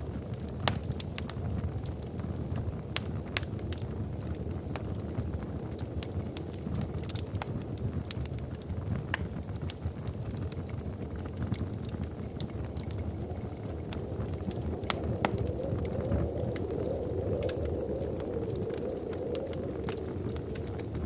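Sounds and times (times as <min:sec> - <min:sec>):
fire low rumble: 0:00.0 - 0:21.0
wood fire crackling: 0:00.0 - 0:21.0.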